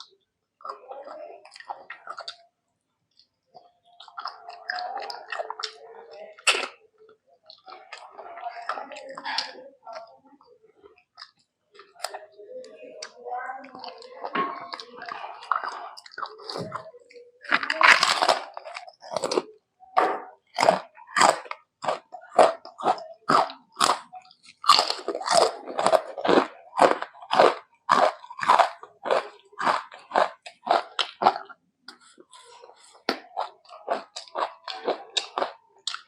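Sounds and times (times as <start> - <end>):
crunchy chewing of food: 0.0 - 2.5, 3.1 - 10.1, 13.0 - 36.0.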